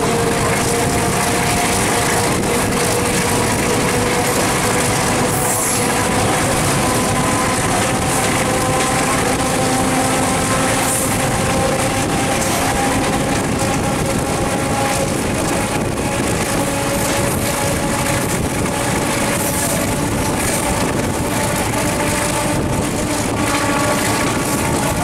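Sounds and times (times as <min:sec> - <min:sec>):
diesel locomotive engine drone: 0:00.0 - 0:25.0
rushing of air and wheels on rail: 0:00.0 - 0:25.0.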